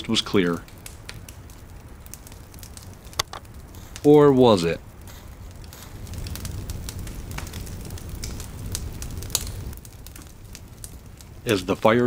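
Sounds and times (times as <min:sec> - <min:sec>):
sharp pops and snaps: 0:00.0 - 0:11.8
campfire crackling: 0:00.0 - 0:12.0
low steady fire rumble: 0:00.0 - 0:12.0.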